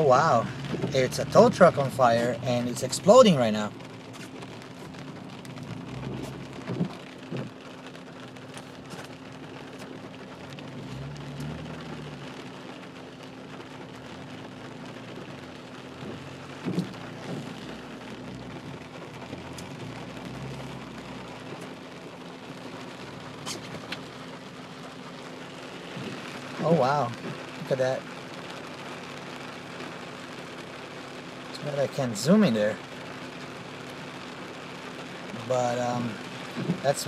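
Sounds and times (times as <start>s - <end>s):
rain pattering on a car: 0.0s - 37.0s.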